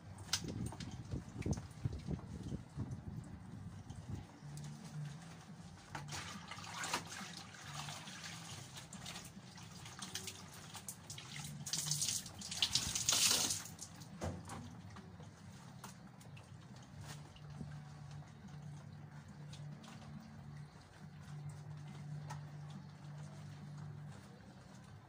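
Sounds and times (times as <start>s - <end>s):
water splashing in a plastic basin: 0.0s - 24.8s.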